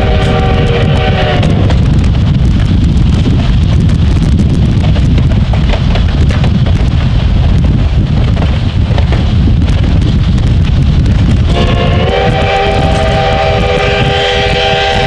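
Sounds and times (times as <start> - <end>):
car road rumble: 0.0 - 14.6
wind buffeting microphone: 0.0 - 15.0.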